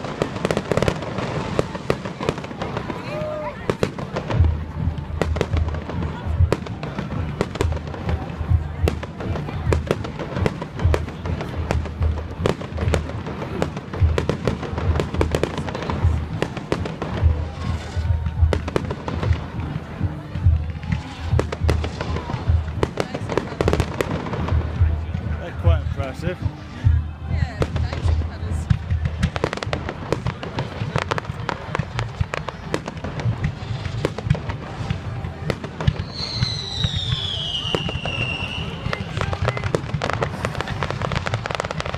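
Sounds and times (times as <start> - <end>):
fireworks bangs and crackles: 0.0 - 41.9
low rumble of explosions: 0.0 - 41.9.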